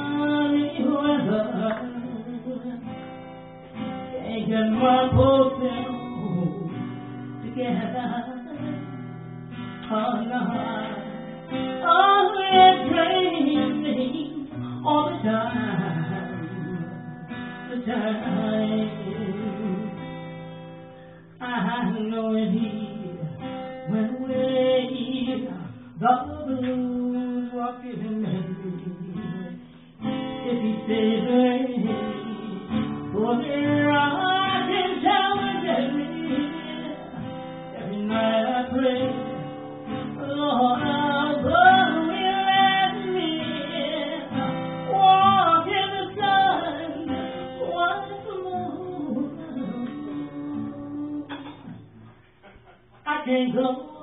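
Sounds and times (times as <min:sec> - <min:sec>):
woman singing blues: 0:00.0 - 0:52.1, 0:53.0 - 0:54.0
strummed acoustic guitar: 0:00.0 - 0:54.0.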